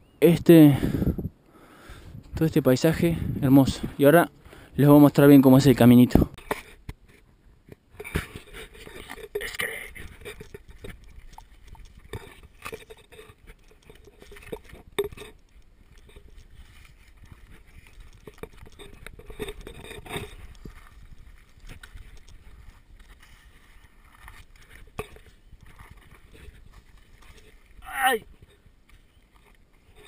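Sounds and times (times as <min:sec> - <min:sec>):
footsteps on dirt trail: 0:01.8 - 0:30.0.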